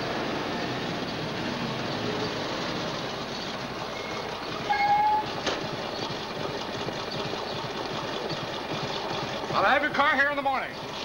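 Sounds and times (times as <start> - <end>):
motorcycle engine running: 0.8 - 11.0.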